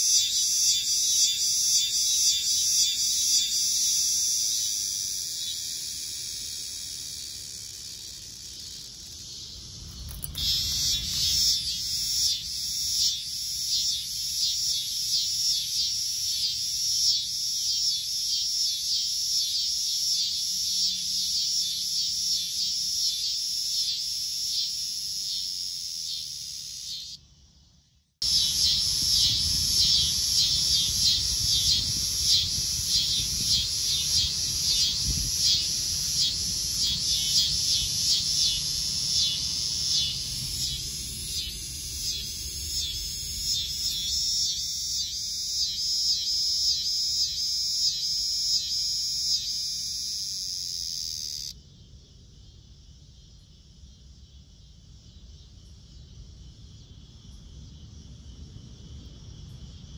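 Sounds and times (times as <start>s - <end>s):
cicadas buzzing: 0.0s - 51.6s.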